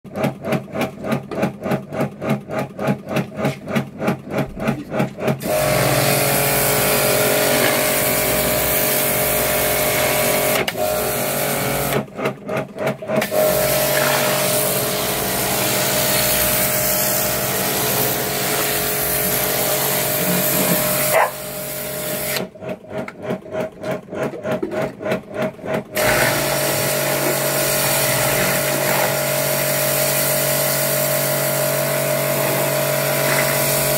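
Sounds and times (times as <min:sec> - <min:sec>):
pressure washer motor humming: 0:02.8 - 0:12.3, 0:13.1 - 0:23.0, 0:24.4 - 0:33.9.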